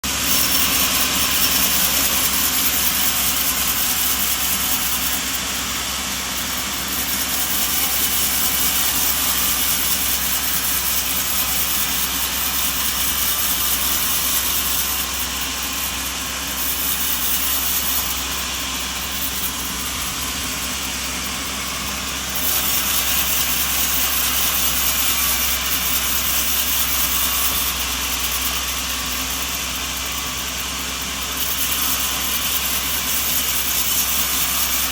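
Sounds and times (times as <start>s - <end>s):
low machine hum: 0.0s - 29.3s
sawmill machinery hissing: 0.0s - 34.9s.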